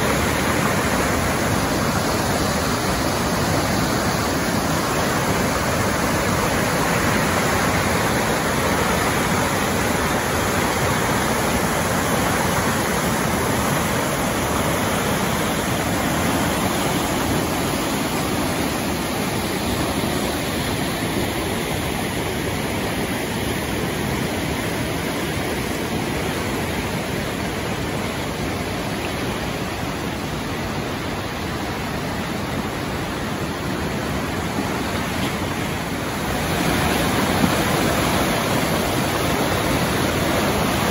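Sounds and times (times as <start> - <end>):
river rushing through rapids: 0.0 - 40.9.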